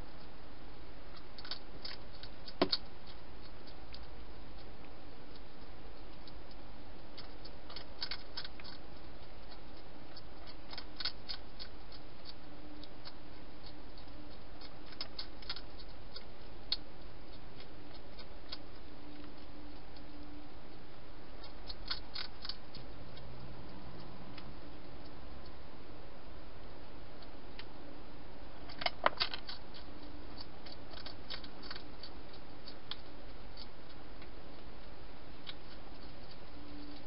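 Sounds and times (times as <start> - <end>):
hedgehog crunching dry food: 1.1 - 25.2, 28.6 - 37.0.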